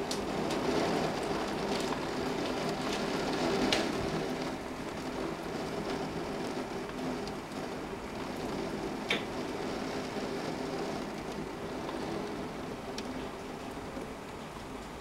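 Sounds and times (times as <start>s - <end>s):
rain and wind rushing: 0.0s - 15.0s.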